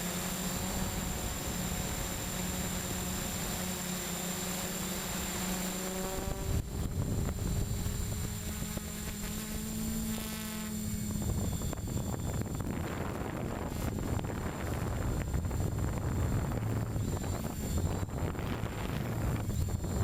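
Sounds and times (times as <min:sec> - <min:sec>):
drone motors buzzing whine: 0:00.0 - 0:20.0.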